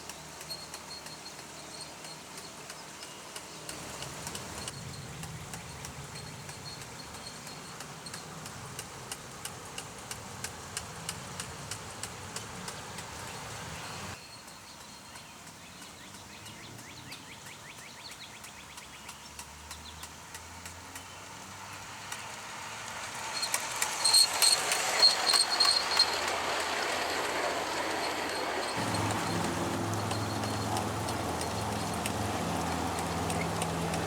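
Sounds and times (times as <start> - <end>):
model train clicking over rails: 0.0 - 13.4, 14.4 - 34.0.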